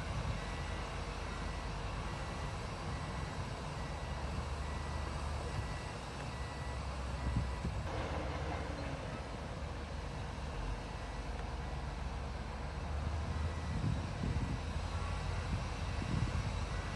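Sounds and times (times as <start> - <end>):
heavy machinery diesel engine: 0.0 - 16.9
reversing alarm beeping: 0.0 - 16.9.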